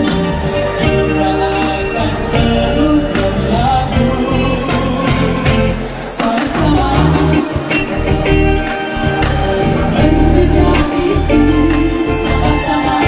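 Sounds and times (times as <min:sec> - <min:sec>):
live band playing: 0:00.0 - 0:13.0
man singing into microphone: 0:00.0 - 0:13.0.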